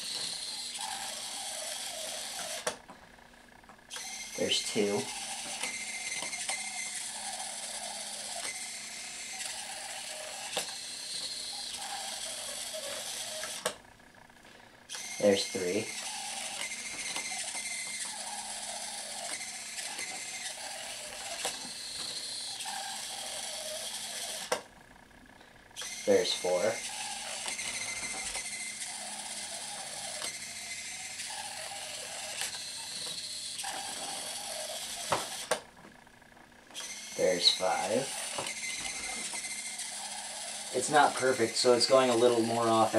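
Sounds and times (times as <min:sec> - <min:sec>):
servo motors whirring: 0:00.0 - 0:02.8, 0:03.9 - 0:13.8, 0:14.9 - 0:24.6, 0:25.8 - 0:35.6, 0:36.8 - 0:42.9.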